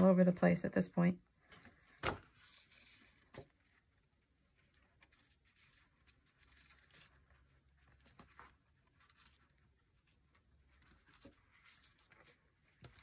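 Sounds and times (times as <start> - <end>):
paper pages rustling: 1.4 - 13.0.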